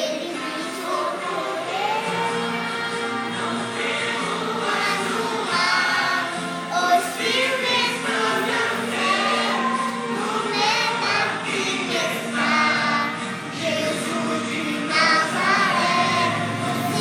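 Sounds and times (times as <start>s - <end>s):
voices singing: 0.0s - 17.0s.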